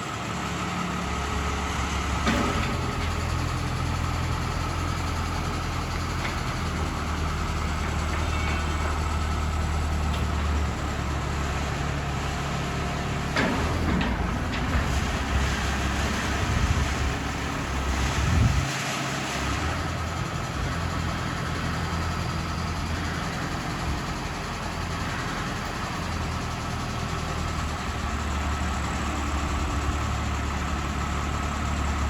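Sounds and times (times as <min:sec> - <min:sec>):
drilling rig engine idling: 0:00.0 - 0:32.0.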